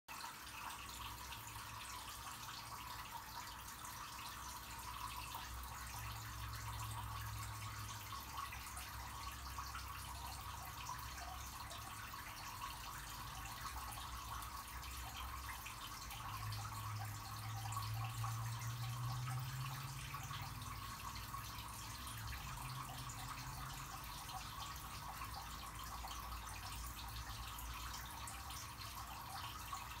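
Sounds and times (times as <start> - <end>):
water trickling: 0.1 - 30.0.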